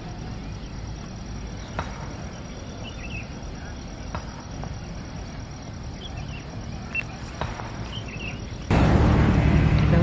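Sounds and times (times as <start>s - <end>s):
loud steady rush of noise: 0.0s - 10.0s.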